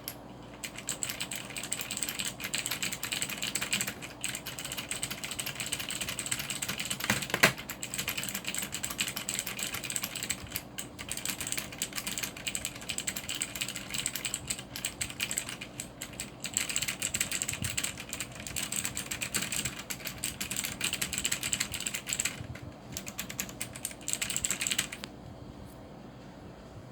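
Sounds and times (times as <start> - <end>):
mechanical keyboard typing: 0.0 - 25.1.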